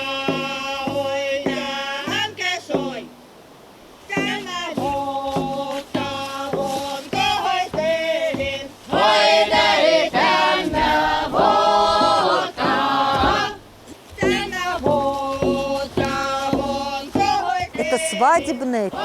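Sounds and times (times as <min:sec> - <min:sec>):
group of voices singing: 0:00.0 - 0:03.1, 0:04.0 - 0:19.0.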